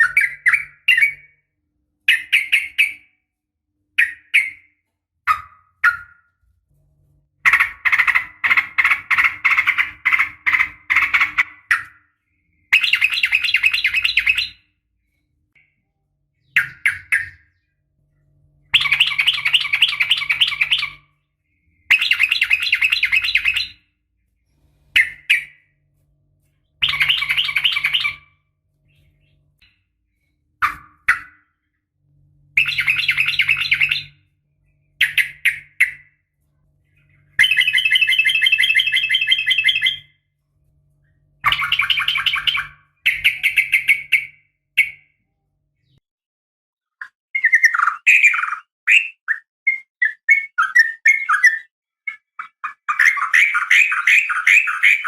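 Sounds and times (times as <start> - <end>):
bird singing rattling phrases: 0.0 - 46.0, 46.9 - 55.0.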